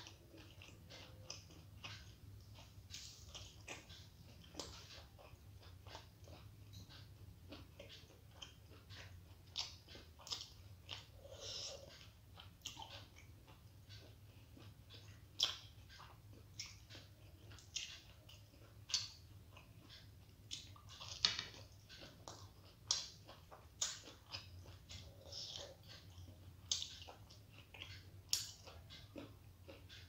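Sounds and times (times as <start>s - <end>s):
close chewing with mouth smacks: 0.0s - 30.0s
faint low hum: 0.0s - 30.0s.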